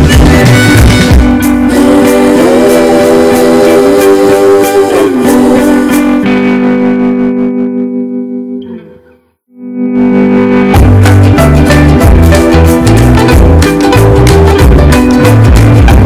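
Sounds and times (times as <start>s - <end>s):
background music with guitar chords: 0.0s - 16.0s.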